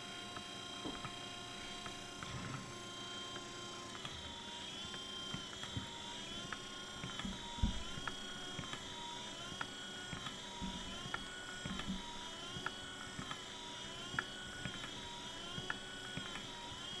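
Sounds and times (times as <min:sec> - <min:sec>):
wiper motor whine: 0:00.0 - 0:17.0.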